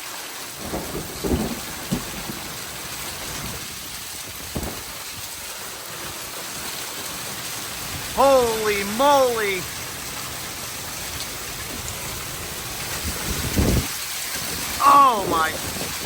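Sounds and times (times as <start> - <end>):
heavy rain hissing: 0.0 - 16.0
hailstones knocking: 0.1 - 8.8, 11.0 - 16.0.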